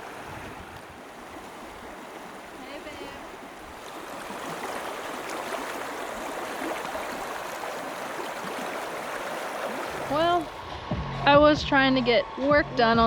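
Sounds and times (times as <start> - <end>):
river flowing: 0.0 - 10.8.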